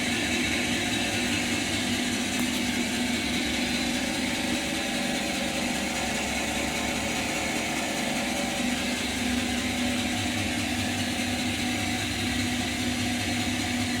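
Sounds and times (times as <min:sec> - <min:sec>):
brake lathe humming: 0:00.0 - 0:14.0.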